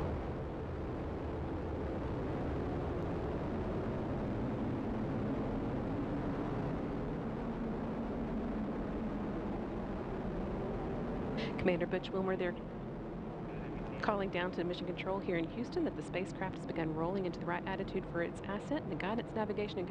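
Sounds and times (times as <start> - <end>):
deep rumble of rocket exhaust: 0.0 - 19.9.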